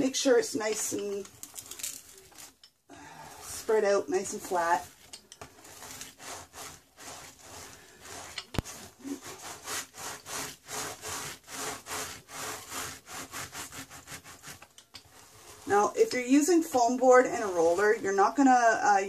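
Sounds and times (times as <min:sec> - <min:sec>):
hand roller scraping rub: 0:03.3 - 0:18.6.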